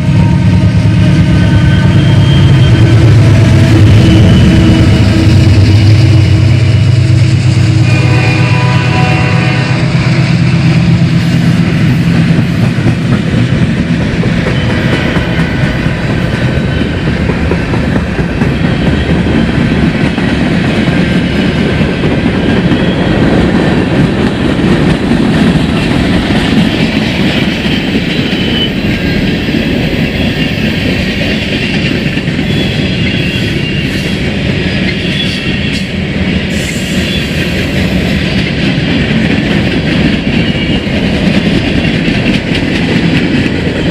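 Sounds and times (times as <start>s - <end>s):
train wheels clacking over rails: 0.0s - 43.9s.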